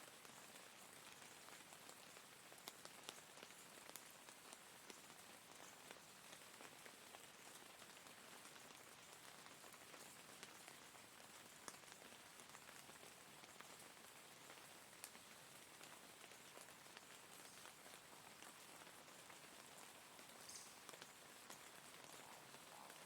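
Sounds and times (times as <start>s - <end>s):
steady rain hiss: 0.0s - 23.0s
raindrops ticking: 0.2s - 23.0s.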